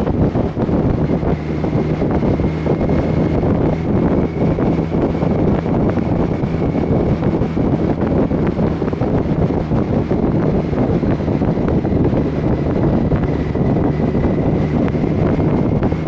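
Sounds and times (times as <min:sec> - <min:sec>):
motorcycle engine drone: 0:00.0 - 0:16.0
wind rush over microphone: 0:00.0 - 0:16.0.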